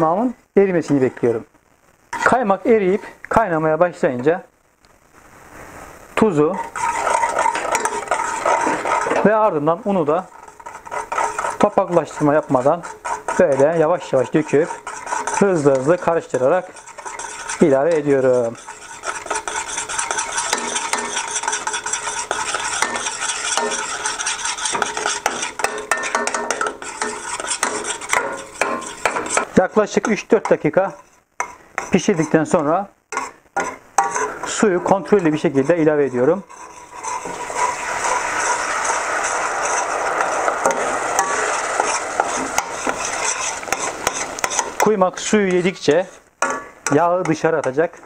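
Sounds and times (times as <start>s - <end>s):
sizzling: 0.0s - 48.0s
metal utensil scraping a pot: 6.2s - 48.0s.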